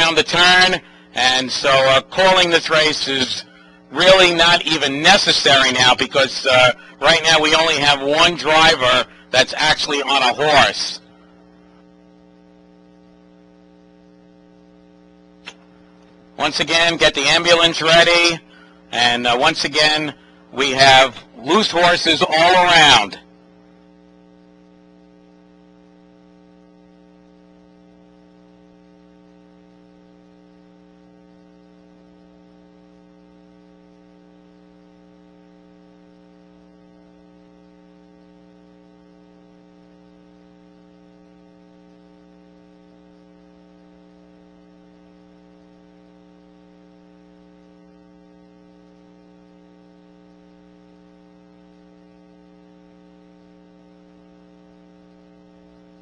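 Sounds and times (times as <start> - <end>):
faint electrical mains hum: 0.0 - 56.0.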